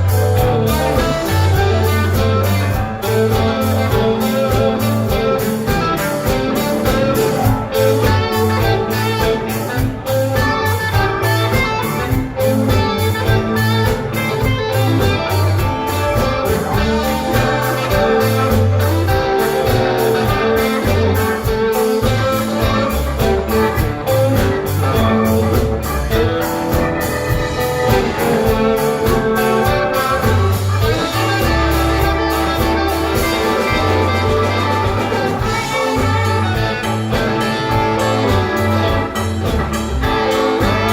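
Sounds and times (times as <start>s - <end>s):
bass: 0.0s - 40.9s
drum beat: 0.0s - 40.9s
guitar: 0.0s - 40.9s.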